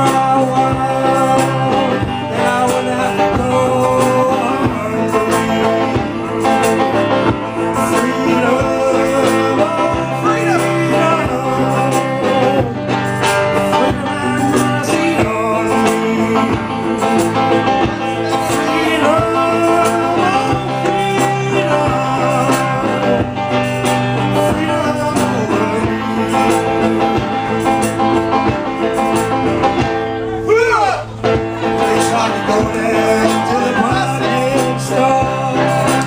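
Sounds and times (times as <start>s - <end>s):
person singing: 0.0s - 27.6s, 31.8s - 36.0s
guitar: 0.0s - 36.0s.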